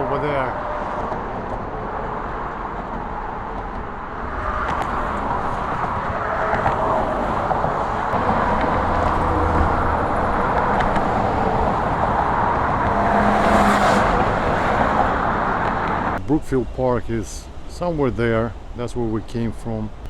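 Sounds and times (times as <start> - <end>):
passing vehicle engine hum: 0.0 - 16.2
road traffic: 0.0 - 20.0.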